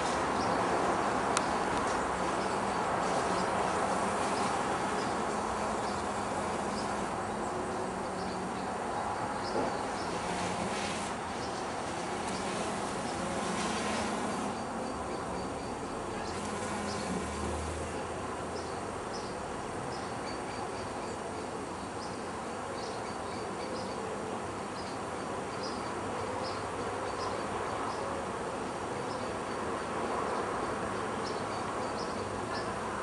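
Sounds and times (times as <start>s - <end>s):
outdoor hiss: 0.0s - 33.0s.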